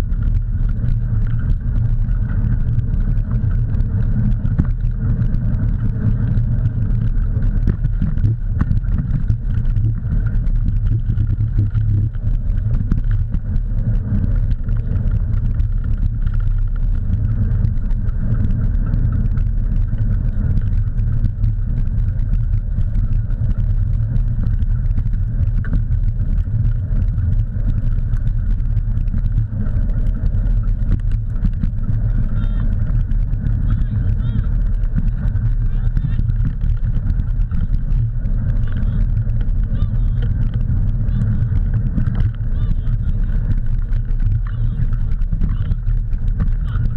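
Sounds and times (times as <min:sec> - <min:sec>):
tyres rumbling on dirt trail: 0:00.0 - 0:46.9.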